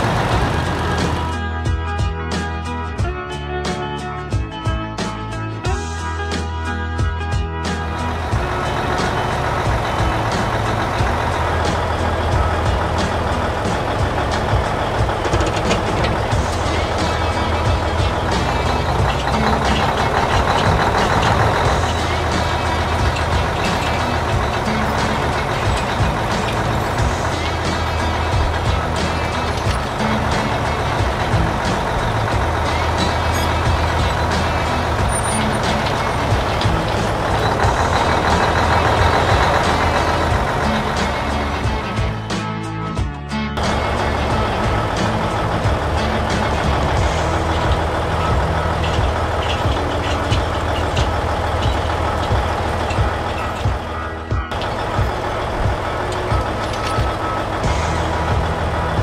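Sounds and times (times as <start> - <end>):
background music: 0.0 - 59.0
diesel engine humming: 0.0 - 59.0.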